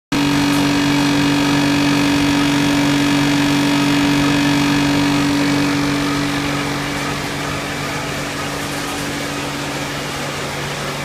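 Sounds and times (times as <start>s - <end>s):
machine mechanical hum: 0.1s - 11.0s
higher steady tone: 0.2s - 11.0s.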